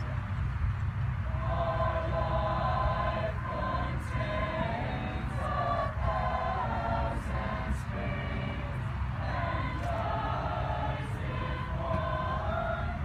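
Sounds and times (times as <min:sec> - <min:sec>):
choir singing held chords: 0:01.2 - 0:13.0.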